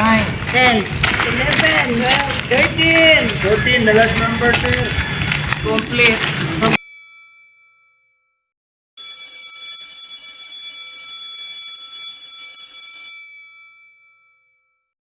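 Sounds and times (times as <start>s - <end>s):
electric bell ringing: 2.5s - 14.9s.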